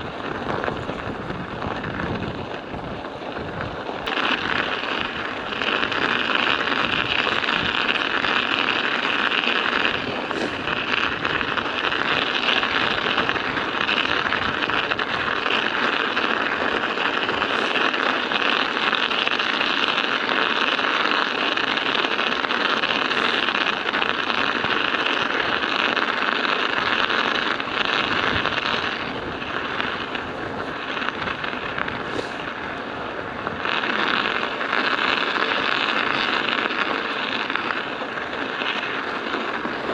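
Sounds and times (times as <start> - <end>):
studded bicycle tyres rattling: 0.0 - 39.9.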